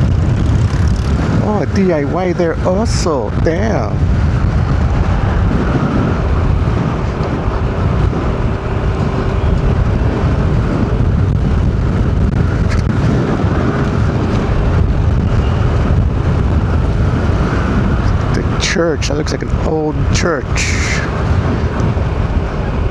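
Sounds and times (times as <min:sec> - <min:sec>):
car driving: 0:00.0 - 0:22.9.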